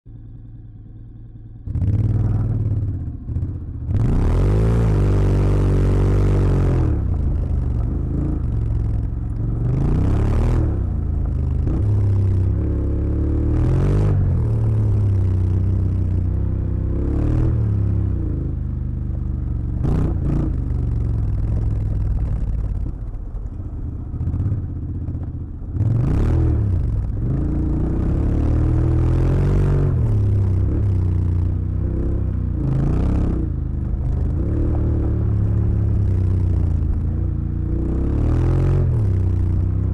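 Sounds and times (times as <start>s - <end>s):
motorcycle engine revving: 0.1s - 39.9s.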